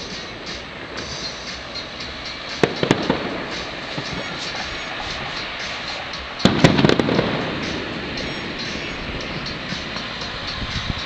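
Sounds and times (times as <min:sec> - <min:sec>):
firework shells bursting: 0:00.0 - 0:11.0
fireworks crackle: 0:00.0 - 0:11.0
sharp bangs: 0:00.0 - 0:11.0.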